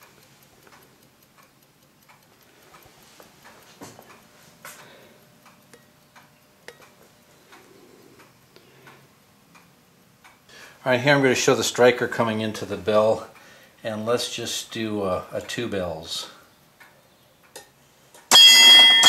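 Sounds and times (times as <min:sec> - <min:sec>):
clock ticking: 0:00.0 - 0:17.7.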